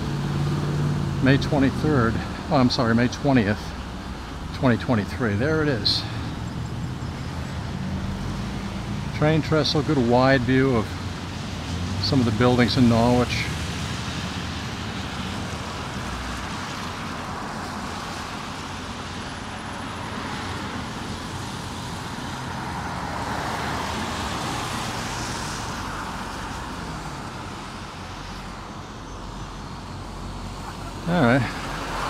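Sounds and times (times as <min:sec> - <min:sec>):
tyres hissing on wet road: 0:00.0 - 0:32.0
vehicle passing by: 0:00.0 - 0:32.0.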